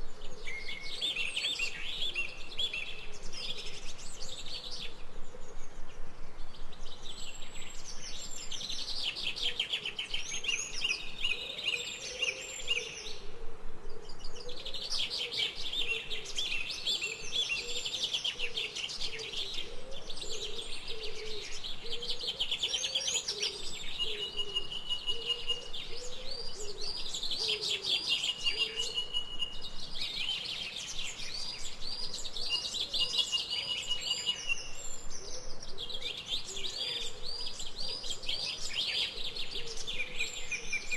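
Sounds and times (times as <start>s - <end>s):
birds singing and chirping: 0.0s - 40.9s.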